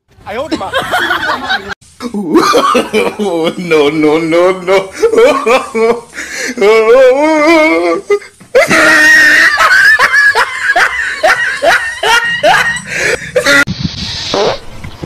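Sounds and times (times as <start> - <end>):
person laughing hard: 0.7 - 3.8, 4.4 - 13.7.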